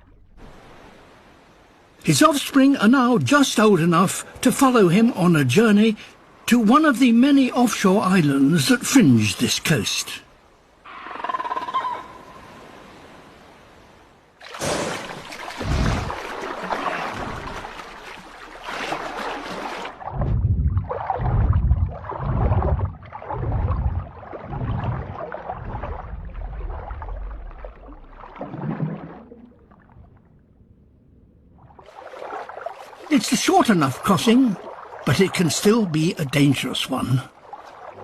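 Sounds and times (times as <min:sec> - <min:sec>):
deep heavy water surges: 0:00.0 - 0:10.9, 0:12.2 - 0:30.2, 0:31.6 - 0:38.0
water splashing and sloshing: 0:00.0 - 0:10.9, 0:12.2 - 0:38.0.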